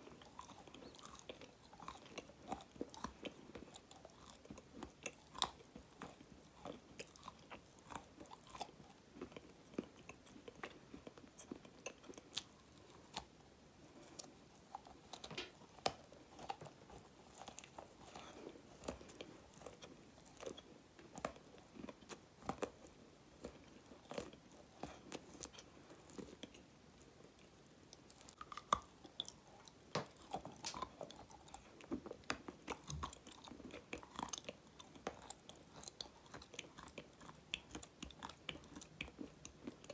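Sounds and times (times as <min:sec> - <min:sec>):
crunching and clicks from chewing: 0:00.0 - 0:39.9.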